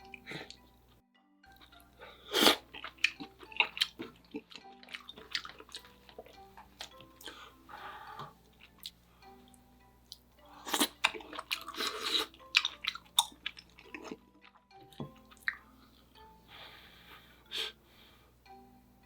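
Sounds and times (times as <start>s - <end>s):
person chewing food: 0.0s - 16.3s.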